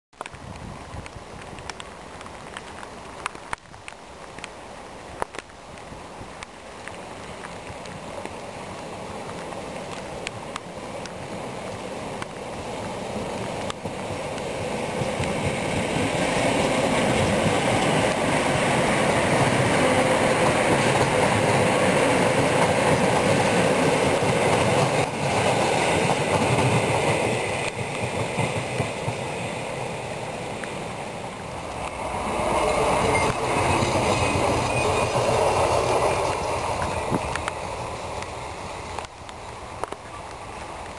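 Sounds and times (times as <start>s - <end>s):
passenger train passing: 6.0s - 40.9s.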